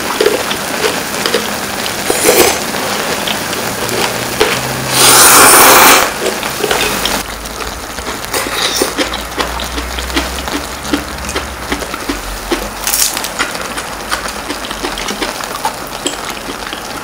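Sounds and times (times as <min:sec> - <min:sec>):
slurping noodles: 0:00.0 - 0:07.2, 0:08.0 - 0:17.0.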